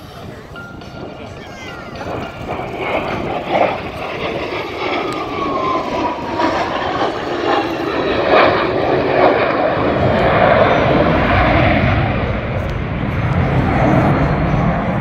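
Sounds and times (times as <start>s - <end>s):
jet fighter engine roar: 0.0s - 15.0s
jet whine falling in pitch: 0.0s - 15.0s.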